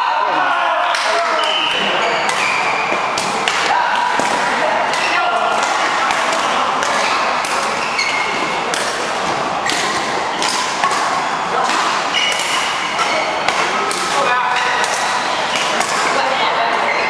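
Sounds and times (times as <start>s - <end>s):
background noise in hall: 0.0s - 17.0s.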